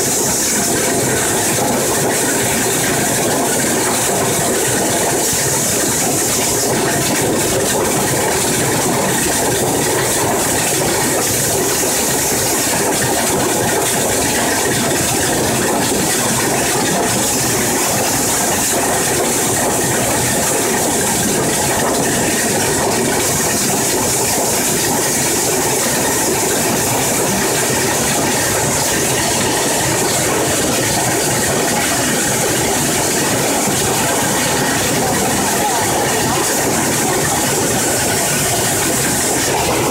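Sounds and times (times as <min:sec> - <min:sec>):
machine hiss: 0:00.0 - 0:39.9
sorting machine clattering: 0:00.0 - 0:39.9.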